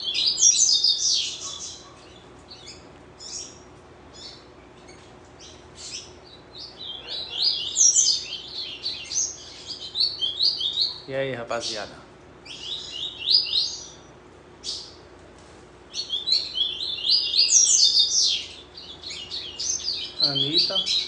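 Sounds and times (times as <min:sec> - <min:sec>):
bird high twittering song: 0:00.0 - 0:15.1, 0:15.9 - 0:21.0.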